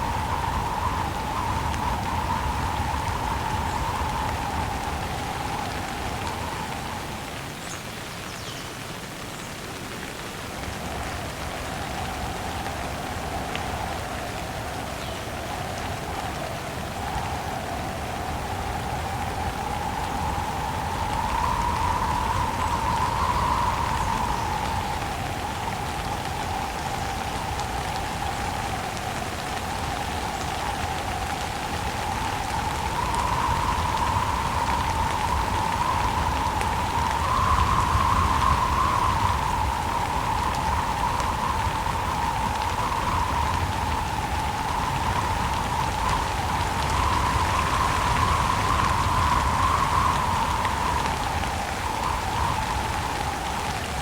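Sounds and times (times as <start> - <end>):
low rumble of wind: 0.0 - 54.0
steady rain falling: 0.0 - 54.0.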